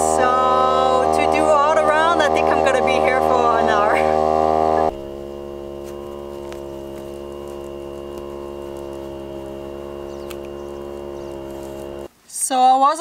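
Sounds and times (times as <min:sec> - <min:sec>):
electric tyre pump buzzing hum: 0:00.0 - 0:12.1.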